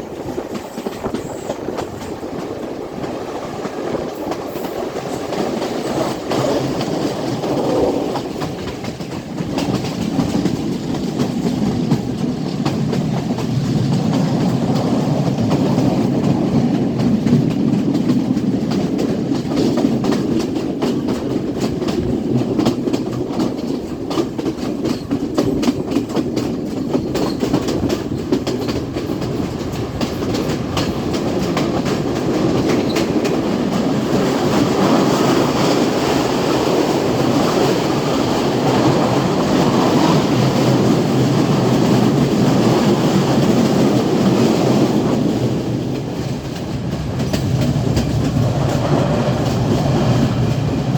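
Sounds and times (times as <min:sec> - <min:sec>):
train rumbling: 0:00.0 - 0:50.9
wheels clacking over rail joints: 0:00.0 - 0:50.9.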